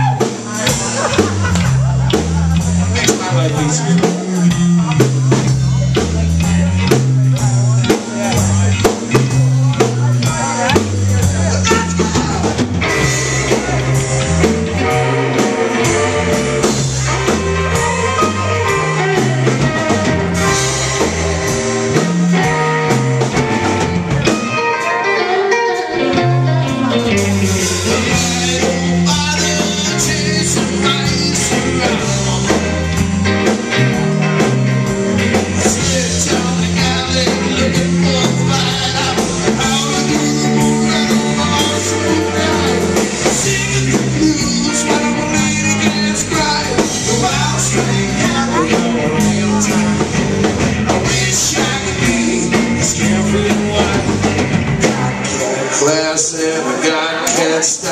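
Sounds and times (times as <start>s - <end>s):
person singing: 0.0s - 34.6s, 35.3s - 57.9s
drum kit: 0.0s - 57.9s
electric guitars: 0.0s - 57.9s.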